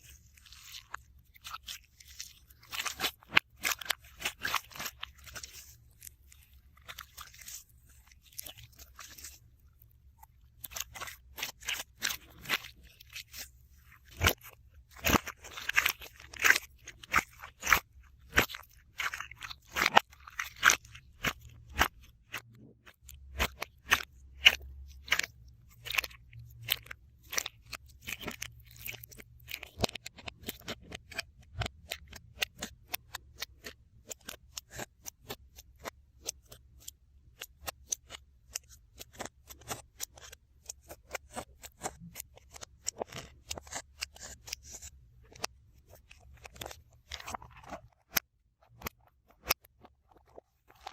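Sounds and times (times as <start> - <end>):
slime clicking and crackling: 0.0 - 50.9.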